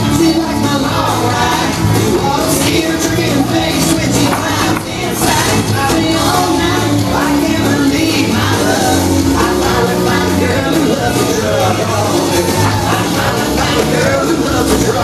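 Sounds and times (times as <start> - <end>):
country line-dance music: 0.0 - 15.0
person singing: 0.0 - 15.0.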